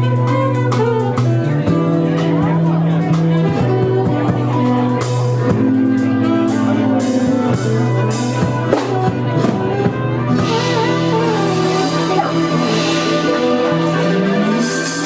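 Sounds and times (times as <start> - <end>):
drum kit with cymbal hits: 0.0 - 15.0
guitar: 0.0 - 15.0
sustained bass notes: 0.0 - 15.0.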